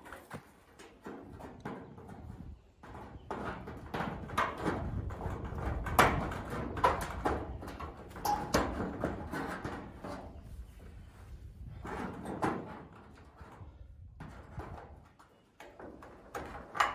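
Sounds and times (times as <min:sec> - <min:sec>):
hand tools on corrugated iron: 0:00.0 - 0:10.9, 0:11.6 - 0:16.9.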